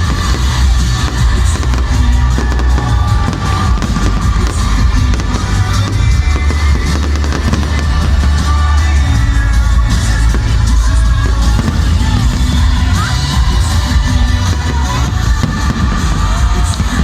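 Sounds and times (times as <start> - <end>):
fireworks crackling and bursting: 0.0 - 17.0
loud music with heavy bass: 0.0 - 17.0.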